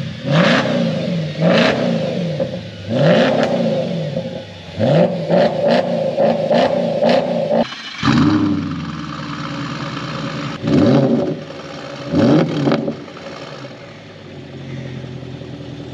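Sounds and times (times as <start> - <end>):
car engine revving and idling: 0.0 - 15.9.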